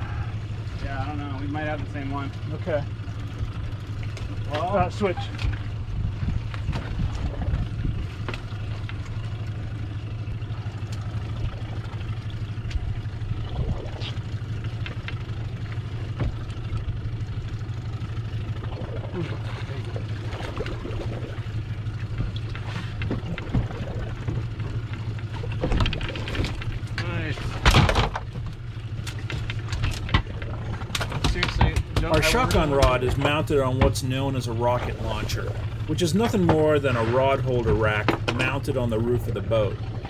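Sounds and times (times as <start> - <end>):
outboard motor humming: 0.0 - 40.0
water noise: 0.0 - 40.0.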